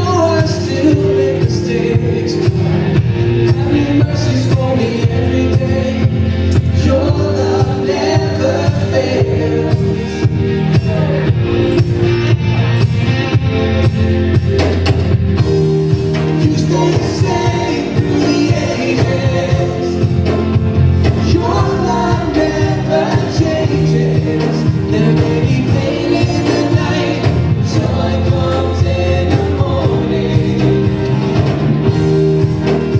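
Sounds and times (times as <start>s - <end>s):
steady drum beat: 0.0s - 32.9s
worship band playing with singing: 0.0s - 32.9s.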